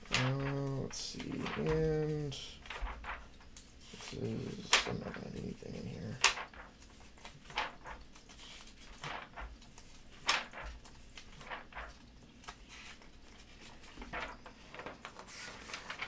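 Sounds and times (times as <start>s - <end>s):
catalog pages being turned: 0.0s - 16.0s.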